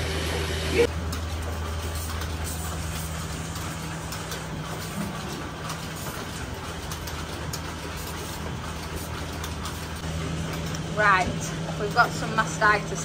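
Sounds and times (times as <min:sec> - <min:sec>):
milking machinery humming: 0:00.0 - 0:13.0.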